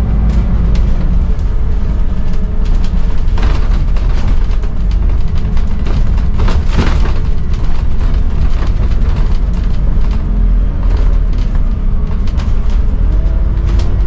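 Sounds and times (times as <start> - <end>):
bus engine rumbling: 0.0 - 14.0
clunks and rattles of bus body: 0.0 - 14.0.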